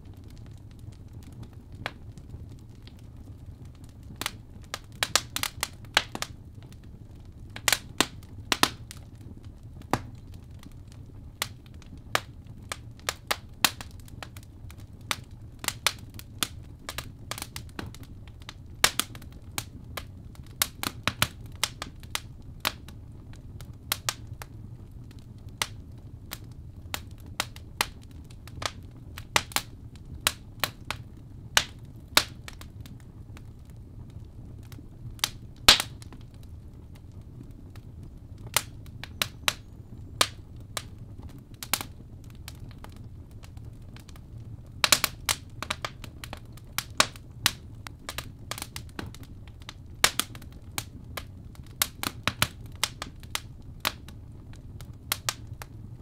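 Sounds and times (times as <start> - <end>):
fire crackling and popping: 0.0 - 56.0
low steady rumble: 0.0 - 56.0.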